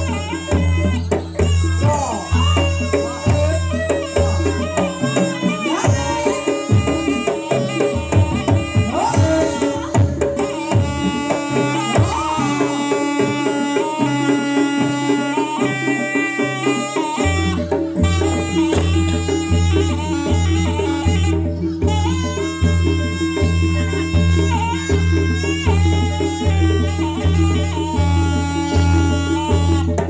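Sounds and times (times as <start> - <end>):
gamelan melodic tones: 0.0 - 30.0
hand drums driving rhythm: 0.0 - 30.0.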